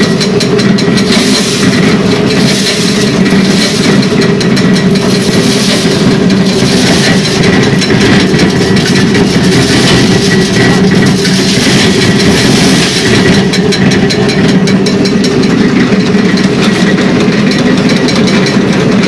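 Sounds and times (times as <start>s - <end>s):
corn sheller machine hum: 0.0s - 19.0s
kernels rattling: 0.0s - 19.0s.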